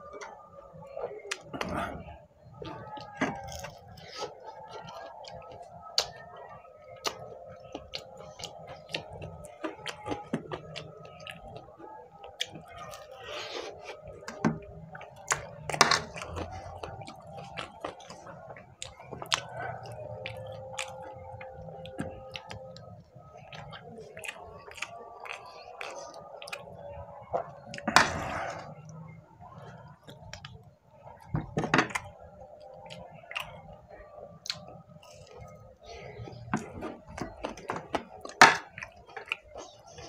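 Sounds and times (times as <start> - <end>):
chewing and wet mouth sounds: 0.0 - 40.0
faint hum: 0.0 - 40.0.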